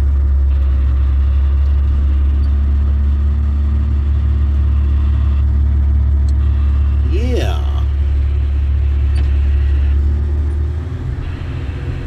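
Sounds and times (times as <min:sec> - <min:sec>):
faint steady hum: 0:00.0 - 0:12.0
vehicle rumble inside cab: 0:00.0 - 0:12.0.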